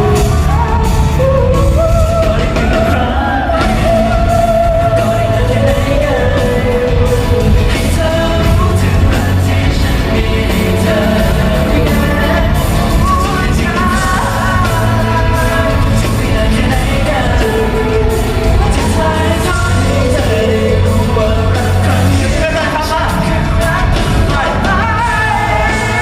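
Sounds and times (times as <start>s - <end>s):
lead vocalist singing: 0.0s - 26.0s
live pop-rock band: 0.0s - 26.0s.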